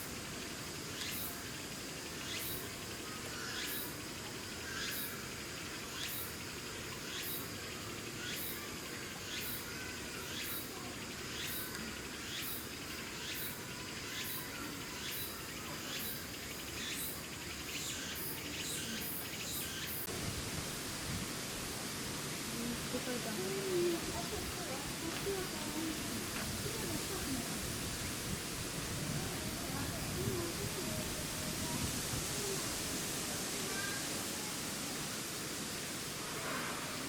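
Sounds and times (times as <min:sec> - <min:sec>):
insects calling in pulses: 0:00.0 - 0:37.0
steady background hiss: 0:00.0 - 0:37.0.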